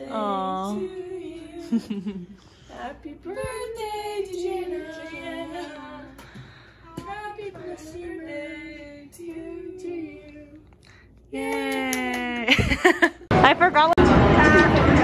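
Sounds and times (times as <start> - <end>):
women singing long sliding notes: 0.0 - 12.5.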